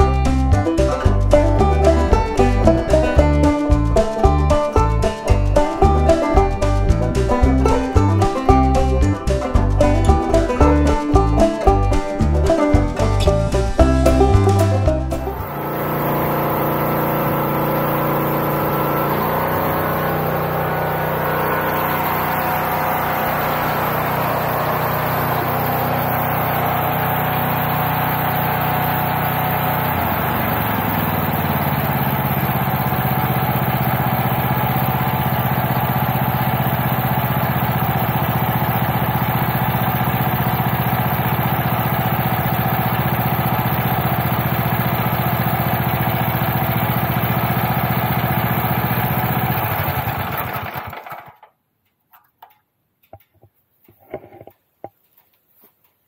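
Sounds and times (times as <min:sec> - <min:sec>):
small petrol engine running: 0:00.0 - 0:51.5.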